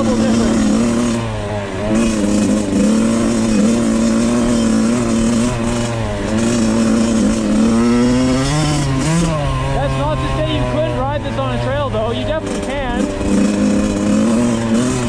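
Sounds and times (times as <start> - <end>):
two-stroke motorcycle engine running: 0.0 - 15.0.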